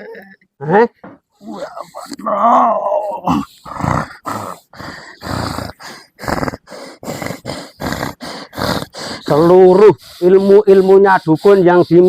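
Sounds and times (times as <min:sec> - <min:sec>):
person grunting and breathing hard: 0:01.4 - 0:12.0.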